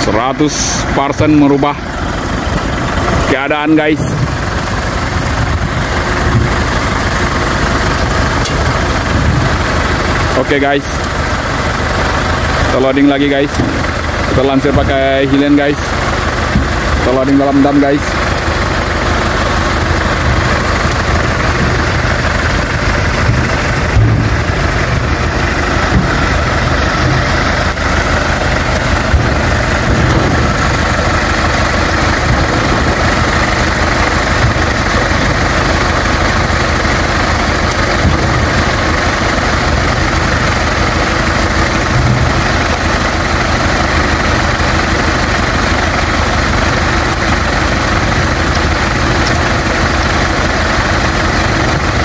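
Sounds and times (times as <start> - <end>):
vehicle engine idling: 0.0 - 52.0.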